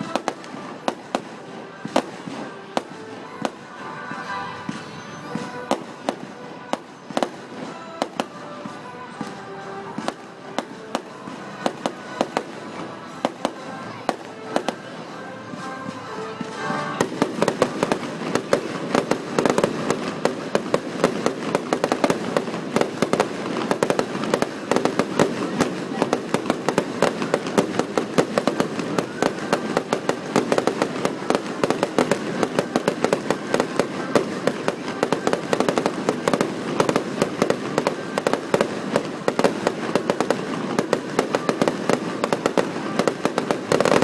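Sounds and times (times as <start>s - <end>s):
background music: 0.0s - 44.0s
fireworks bangs: 0.0s - 44.0s.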